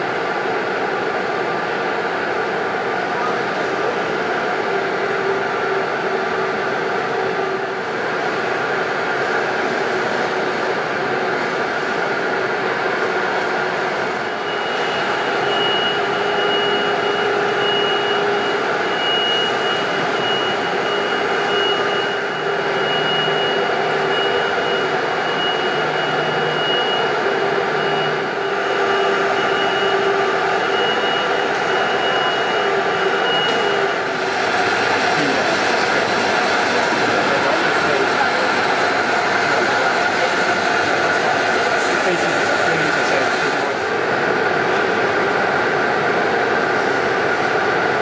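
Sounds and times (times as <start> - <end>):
loud machinery noise: 0.0 - 48.0.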